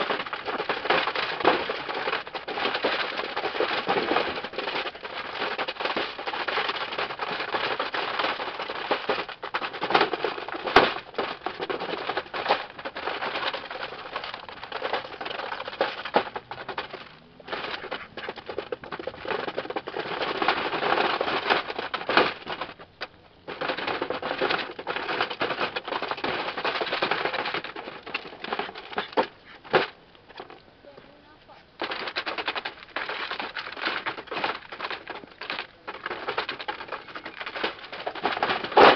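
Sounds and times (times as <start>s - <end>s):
duck bills clattering at feed: 0.0s - 38.9s.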